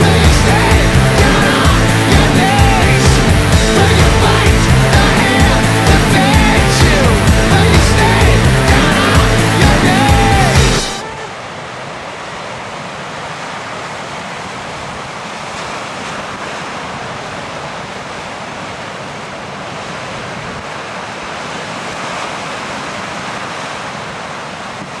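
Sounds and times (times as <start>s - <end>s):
surf breaking on rocky shore: 0.0s - 25.0s.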